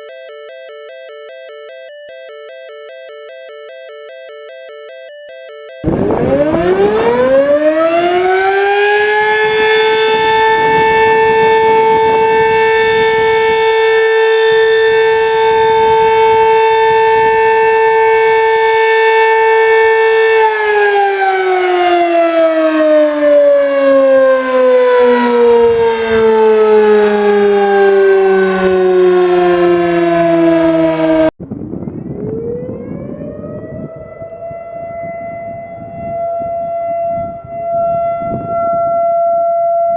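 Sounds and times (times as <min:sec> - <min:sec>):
quieter siren winding up: 0:00.0 - 0:31.3, 0:31.9 - 0:39.9
civil defense siren: 0:00.0 - 0:39.9.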